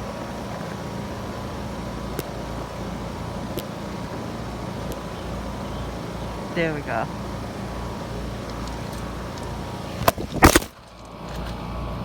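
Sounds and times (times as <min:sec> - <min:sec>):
fan and compressor hum: 0:00.0 - 0:12.0.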